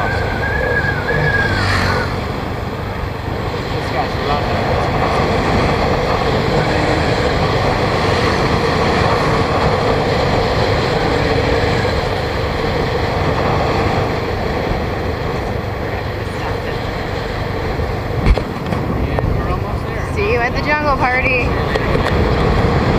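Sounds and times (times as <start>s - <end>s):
road noise: 0.0s - 22.9s.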